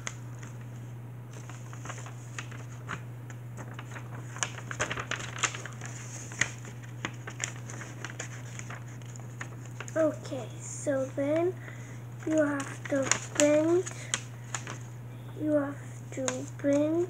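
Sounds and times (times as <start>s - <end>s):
paper crinkling and rustling: 0.0s - 15.0s, 16.1s - 17.0s
steady low hum: 0.0s - 17.0s.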